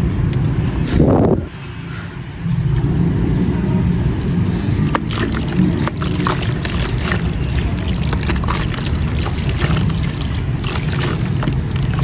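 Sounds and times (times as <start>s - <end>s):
water sloshing: 1.5s - 12.0s.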